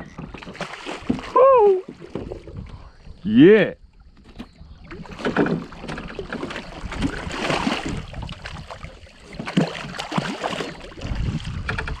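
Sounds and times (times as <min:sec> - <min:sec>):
water splashing beside a boat: 0:00.0 - 0:03.2, 0:03.8 - 0:12.0.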